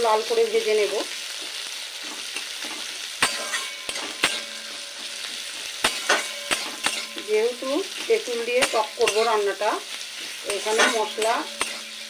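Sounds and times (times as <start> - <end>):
onions sizzling in hot oil: 0.0 - 12.0
metal spatula scraping pan: 1.4 - 12.0.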